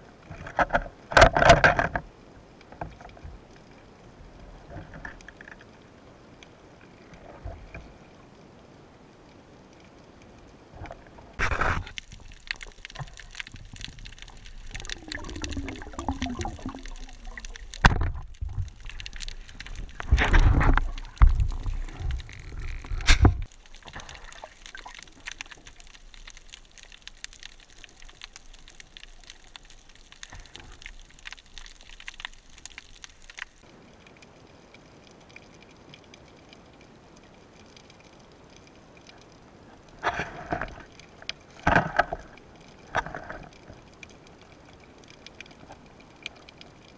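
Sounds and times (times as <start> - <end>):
water rushing and gurgling: 0.0 - 46.9
low underwater hiss: 2.0 - 46.9.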